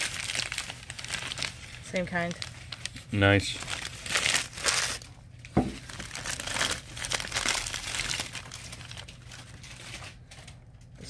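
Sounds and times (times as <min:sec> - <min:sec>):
packing paper crinkling: 0:00.0 - 0:10.8.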